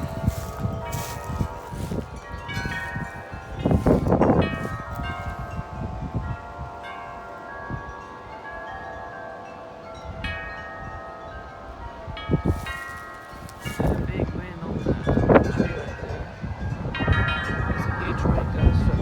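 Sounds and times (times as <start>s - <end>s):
wind rumble on microphone: 0.0s - 9.0s, 9.9s - 19.0s
tubular wind chimes clanging: 0.0s - 19.0s.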